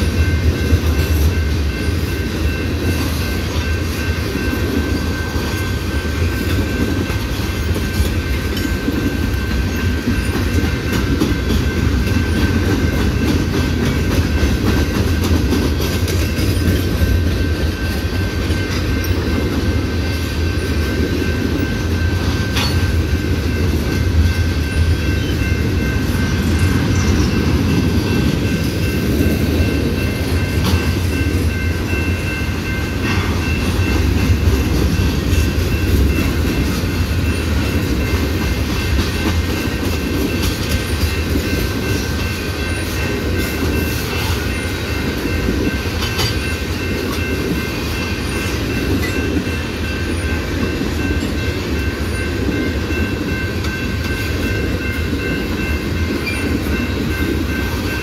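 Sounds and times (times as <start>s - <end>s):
steel wheels rumbling on rails: 0.0s - 58.0s
wheels clickety-clack over rail joints: 0.0s - 58.0s.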